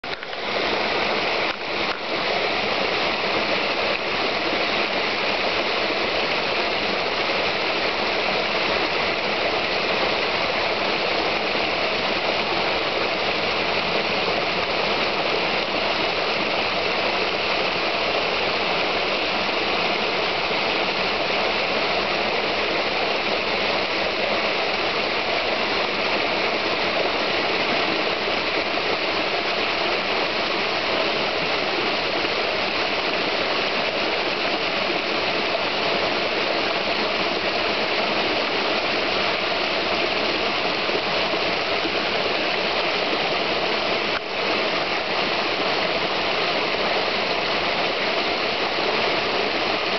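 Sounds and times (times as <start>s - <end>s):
brook water rushing over rocks: 0.0s - 49.9s.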